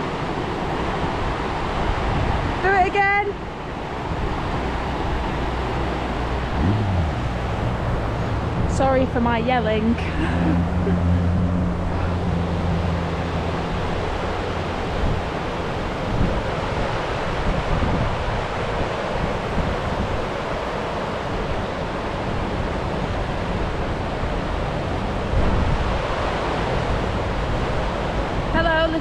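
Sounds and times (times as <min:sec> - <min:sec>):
river water rushing over rocks: 0:00.0 - 0:29.0.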